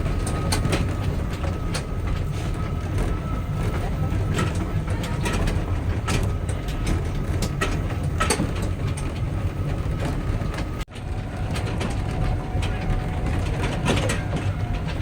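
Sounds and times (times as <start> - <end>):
rattling clicks of carriages: 0.0 - 15.0
toy train rumbling on track: 0.0 - 15.0.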